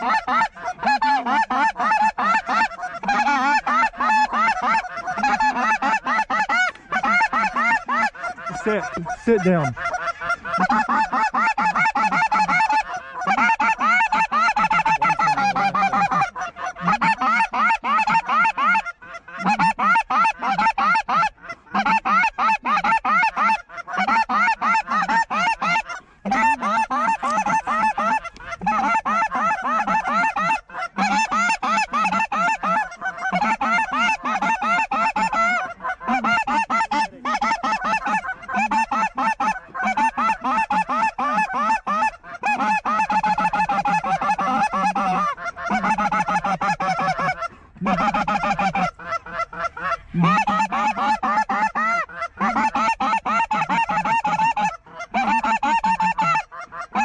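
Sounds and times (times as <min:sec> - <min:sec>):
flock of geese honking: 0:00.0 - 0:57.0.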